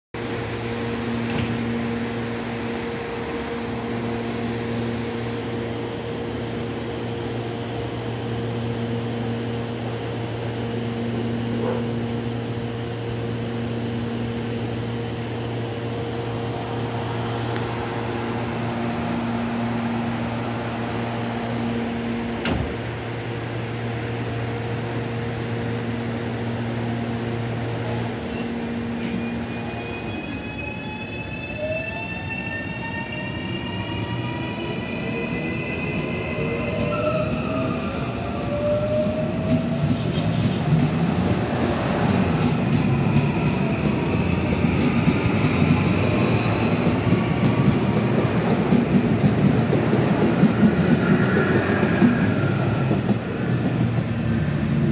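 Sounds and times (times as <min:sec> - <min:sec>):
train equipment humming: 0:00.2 - 0:54.9
train rising whine: 0:00.2 - 0:54.9.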